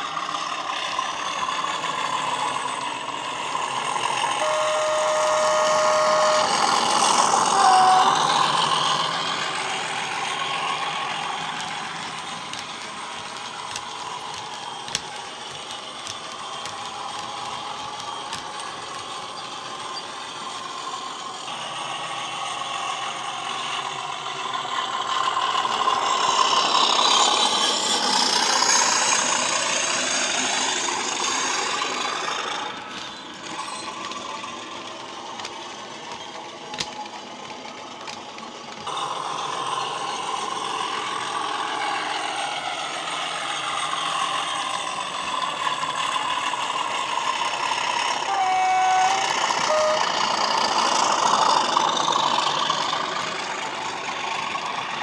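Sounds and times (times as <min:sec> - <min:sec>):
model wheels clicking on track: 0:00.0 - 0:21.6, 0:22.4 - 0:55.0
diesel locomotive engine sound: 0:00.0 - 0:55.0.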